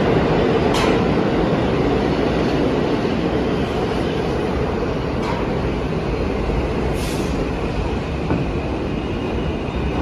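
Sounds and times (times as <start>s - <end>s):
subway train rumbling: 0.0s - 10.0s.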